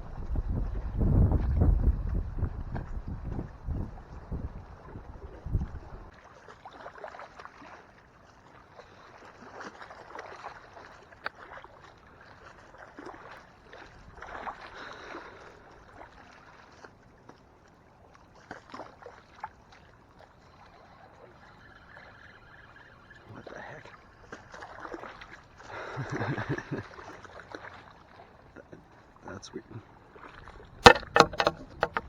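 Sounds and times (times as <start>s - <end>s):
waves lapping against boat hull: 0.2s - 25.8s, 30.0s - 32.0s.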